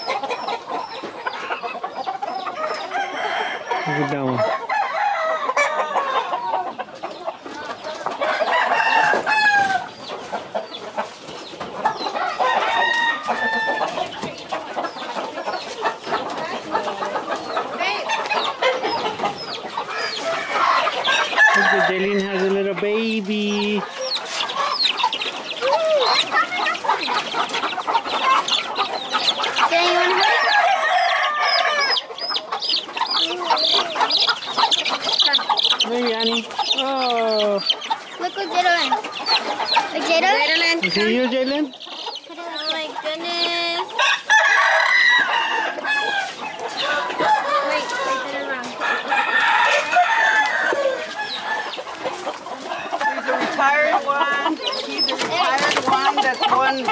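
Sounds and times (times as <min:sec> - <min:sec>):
chick peeping: 0:00.0 - 0:56.9
chickens clucking and crowing: 0:00.0 - 0:56.9.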